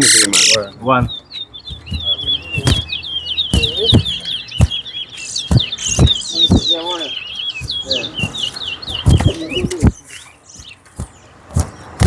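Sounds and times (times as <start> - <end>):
sharp knocks: 0.4 - 12.0.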